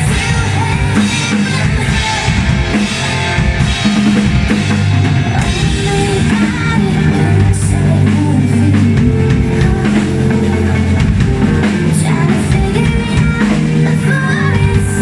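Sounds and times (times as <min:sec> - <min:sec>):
drum kit: 0:00.0 - 0:15.0
live rock band playing: 0:00.0 - 0:15.0.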